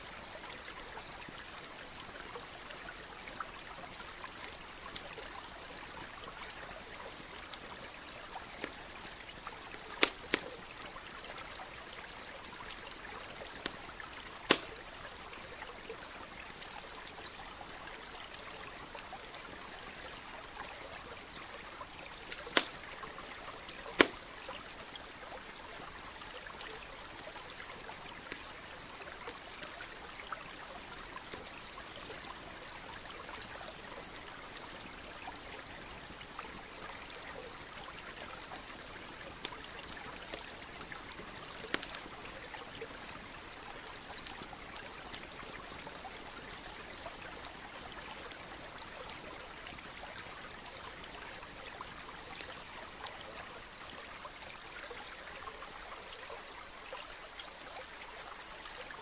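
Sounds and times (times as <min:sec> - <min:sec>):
stream trickling: 0:00.0 - 0:59.0
campfire crackling and popping: 0:00.1 - 0:57.7.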